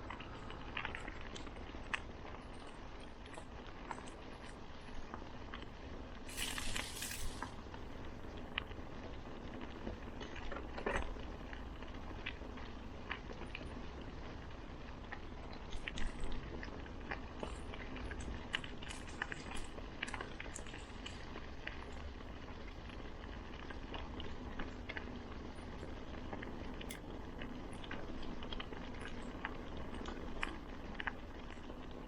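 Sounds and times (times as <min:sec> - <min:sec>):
bicycle tyres rumbling: 0:00.0 - 0:32.0
grit crackling under wheels: 0:00.0 - 0:32.0.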